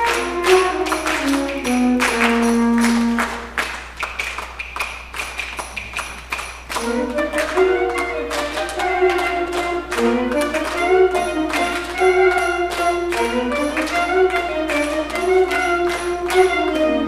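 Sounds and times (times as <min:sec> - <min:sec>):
concert band playing: 0:00.0 - 0:03.6, 0:06.8 - 0:17.0.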